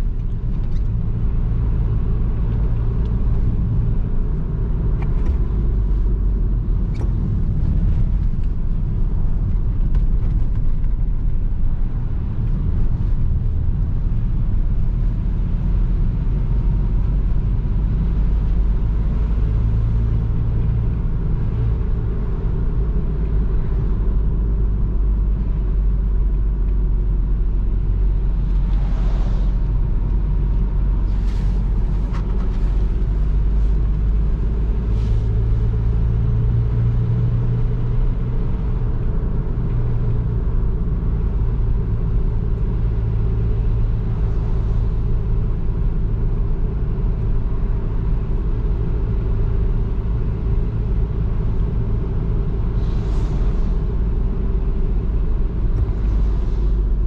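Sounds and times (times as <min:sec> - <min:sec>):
diesel engine hum: 0:00.0 - 0:57.0
road noise rumble: 0:00.0 - 0:57.0.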